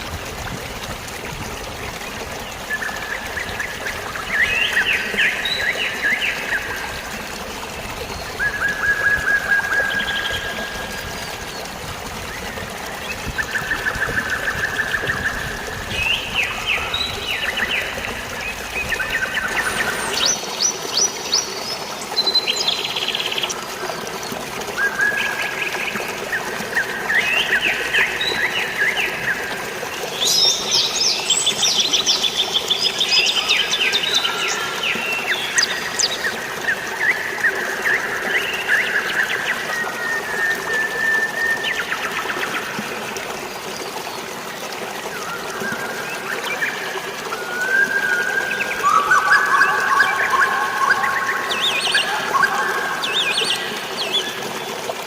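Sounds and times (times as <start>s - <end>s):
songbirds singing: 0.0s - 55.0s
water trickling: 0.0s - 55.0s.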